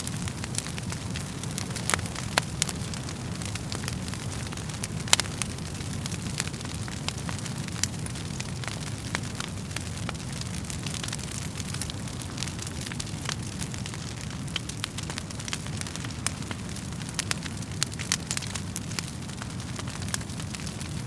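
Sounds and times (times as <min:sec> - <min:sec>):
burning logs crackling and popping: 0:00.0 - 0:21.0
fire flames rumbling: 0:00.0 - 0:21.0.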